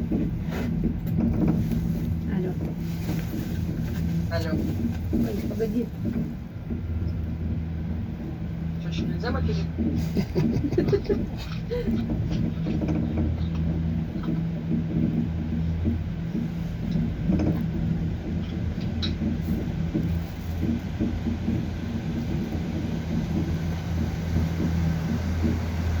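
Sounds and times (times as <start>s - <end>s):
road rumble: 0.0s - 26.0s
vehicle interior drone: 0.0s - 26.0s.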